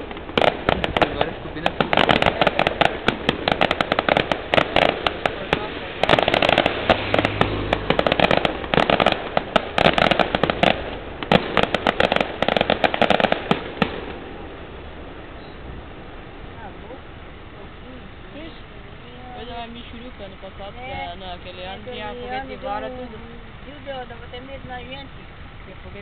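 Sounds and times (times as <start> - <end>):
firecrackers bursting: 0.0 - 26.0.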